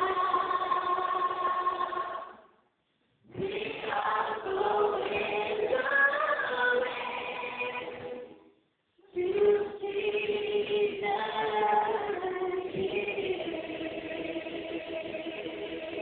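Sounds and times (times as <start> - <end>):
gospel choir singing chords: 0.0 - 2.6, 3.3 - 16.0.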